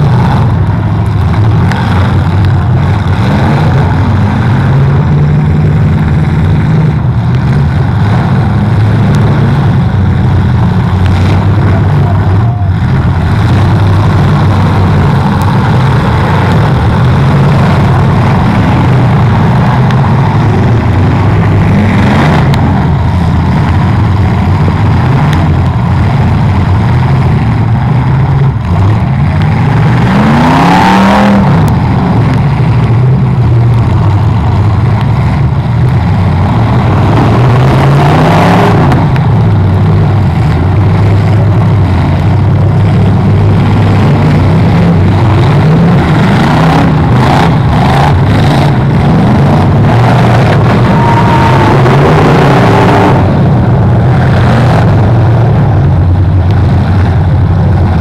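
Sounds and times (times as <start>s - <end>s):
car engines running hard: 0.0s - 58.0s
engine revving up sharply: 0.0s - 58.0s.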